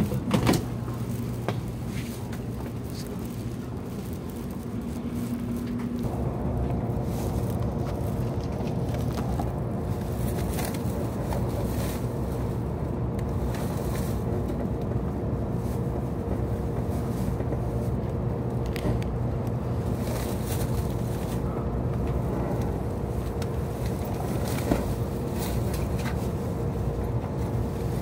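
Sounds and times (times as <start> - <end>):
constant hum: 0.0 - 28.0
train cabin rumble: 0.0 - 28.0.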